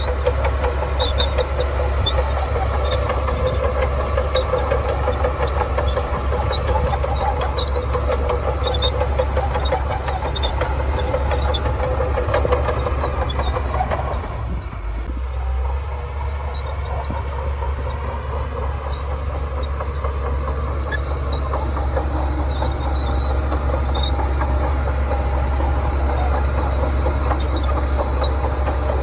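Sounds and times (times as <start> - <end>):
bulldozer engine running: 0.0 - 29.0.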